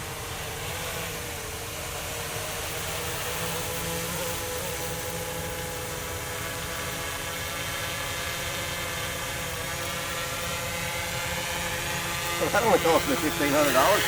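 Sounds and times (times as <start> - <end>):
continuous hiss: 0.0 - 14.0
small motor buzzing hum: 0.0 - 14.0.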